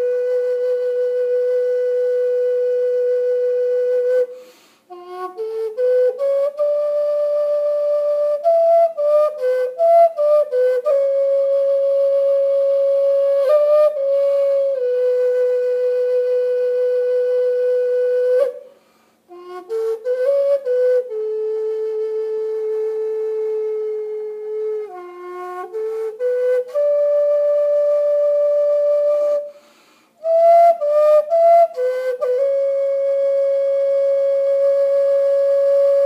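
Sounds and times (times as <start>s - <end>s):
solo flute melody: 0.0s - 36.0s.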